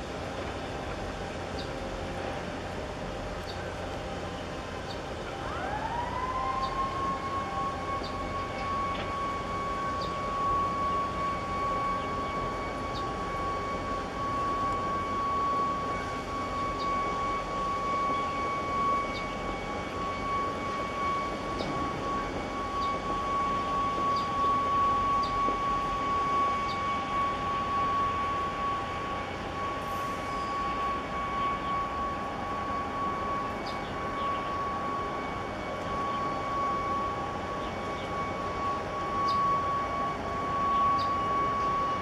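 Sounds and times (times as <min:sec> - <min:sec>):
steady high whine: 0:00.0 - 0:42.0.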